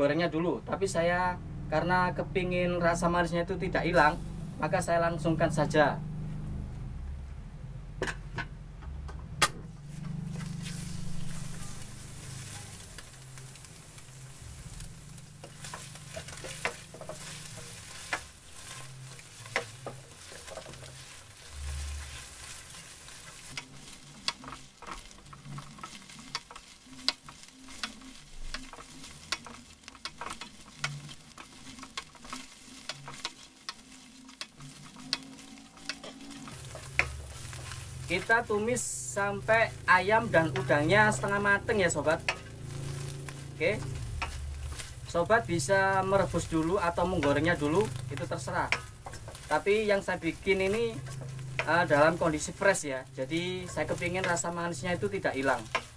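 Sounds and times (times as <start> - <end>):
food sizzling in a wok: 9.8 - 55.9
spatula scraping a wok: 9.8 - 55.9.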